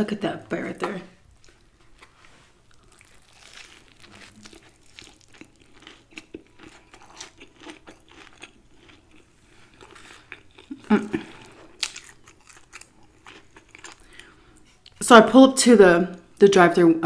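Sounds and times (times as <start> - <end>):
chewing crispy chicken: 1.2 - 15.0.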